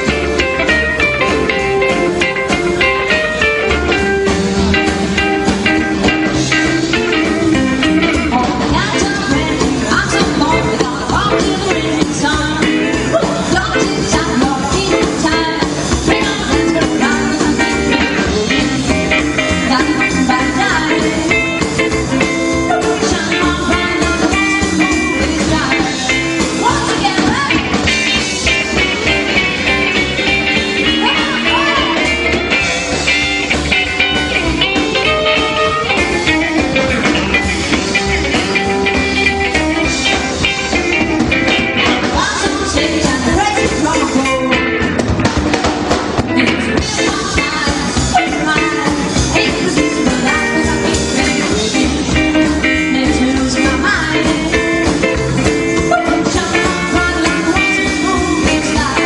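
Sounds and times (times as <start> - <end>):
rockabilly band playing: 0.0 - 59.0
running bass line: 0.0 - 59.0.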